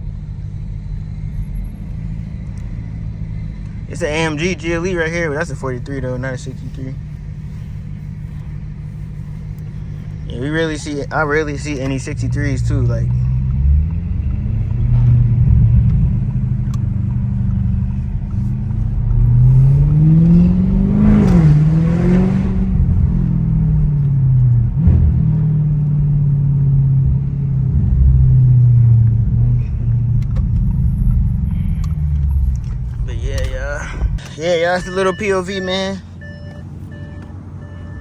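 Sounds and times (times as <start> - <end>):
car exhaust drone: 0.0 - 38.0.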